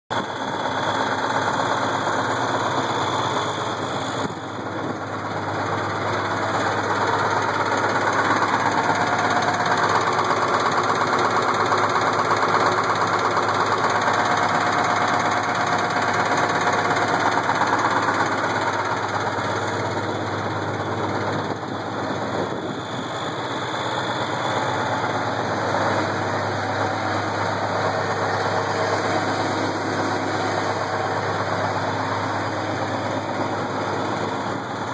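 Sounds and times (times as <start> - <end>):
diesel engine running with a knock: 0.1 - 34.9.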